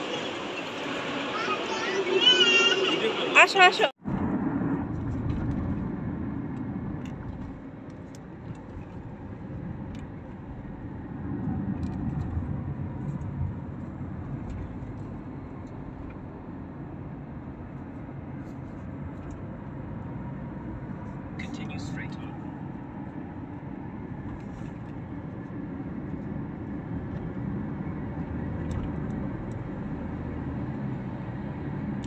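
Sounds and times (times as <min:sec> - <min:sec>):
car cabin road and engine rumble: 0:00.0 - 0:32.0.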